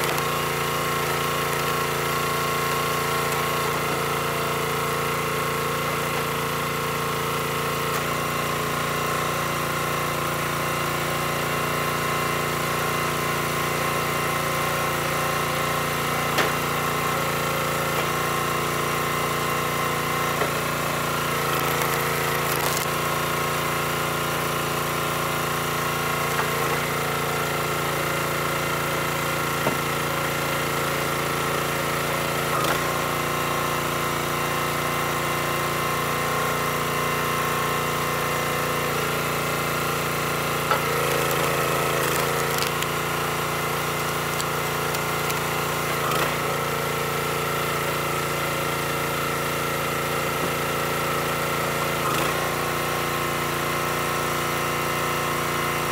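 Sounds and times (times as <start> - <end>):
small gasoline engine running: 0.0 - 55.9.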